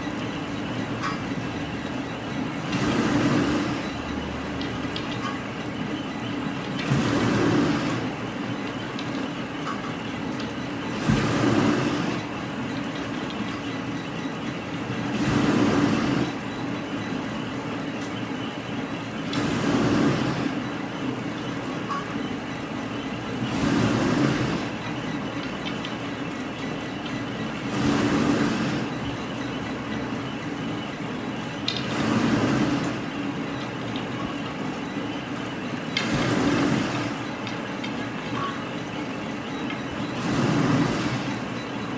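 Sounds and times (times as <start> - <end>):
factory machinery running: 0.0 - 41.9.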